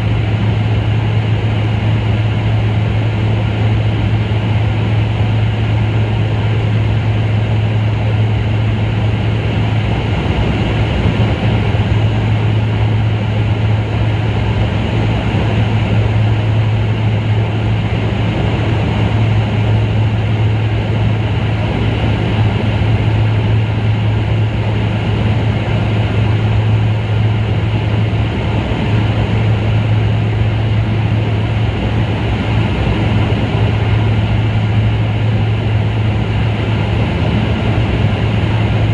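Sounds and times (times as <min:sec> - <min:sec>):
aircraft engine drone in cabin: 0:00.0 - 0:38.9.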